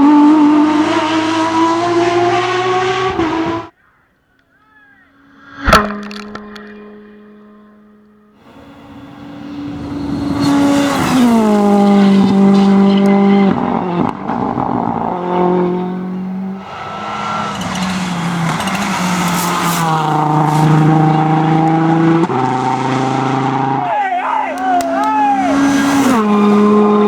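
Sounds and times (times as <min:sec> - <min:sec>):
rally car engine shifting gears: 0:00.0 - 0:03.7, 0:05.2 - 0:27.0.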